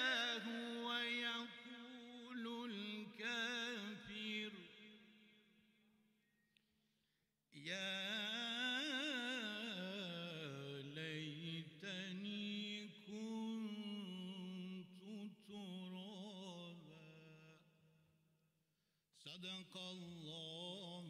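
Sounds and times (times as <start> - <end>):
man chanting unaccompanied: 0.0 - 5.3, 7.6 - 17.6, 19.2 - 21.0.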